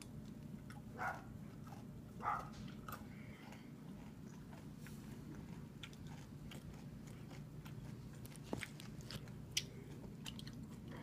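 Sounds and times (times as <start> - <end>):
candy crunching: 0.0 - 11.0.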